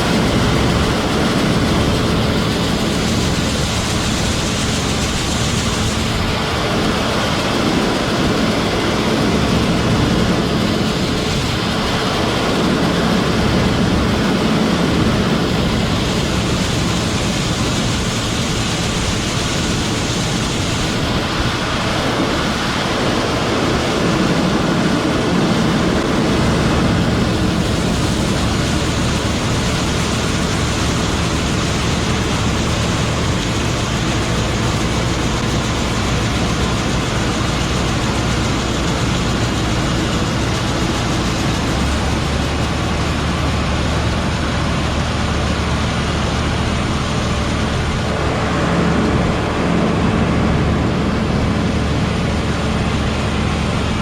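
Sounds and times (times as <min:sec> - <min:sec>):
heavy farm machinery rumbling: 0:00.0 - 0:54.0.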